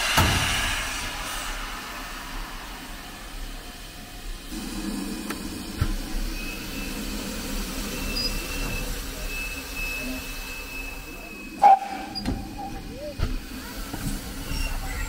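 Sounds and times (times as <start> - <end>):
steam locomotive hiss and rumble: 0.0 - 15.0.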